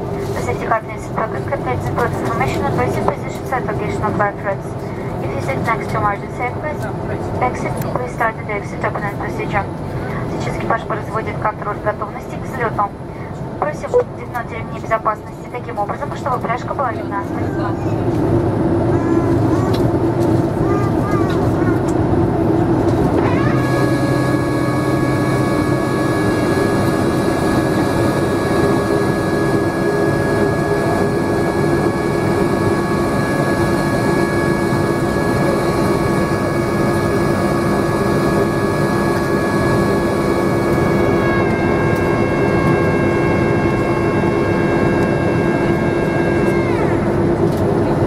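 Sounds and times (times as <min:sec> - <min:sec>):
cabin rush and hum: 0:00.0 - 0:48.0
jet engine whine: 0:00.0 - 0:48.0.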